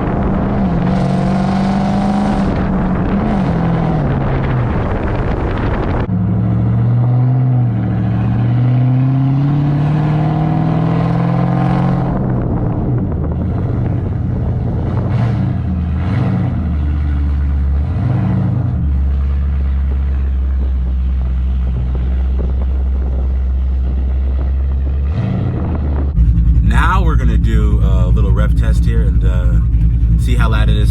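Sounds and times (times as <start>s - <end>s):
loud car exhaust: 0.0s - 30.9s.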